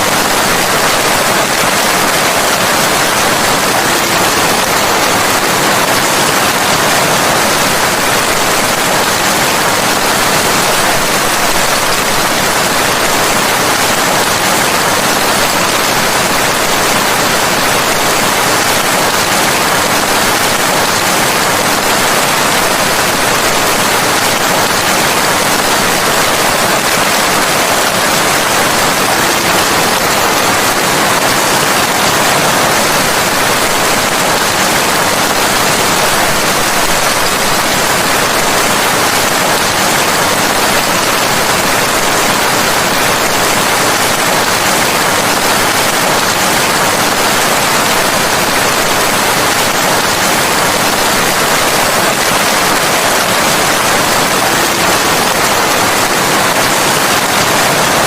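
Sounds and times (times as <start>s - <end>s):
steady dense rain: 0.0s - 58.0s.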